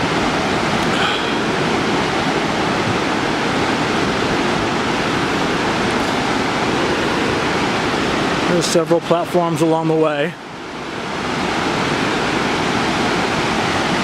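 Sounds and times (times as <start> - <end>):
waterfall and river rushing: 0.0 - 14.0.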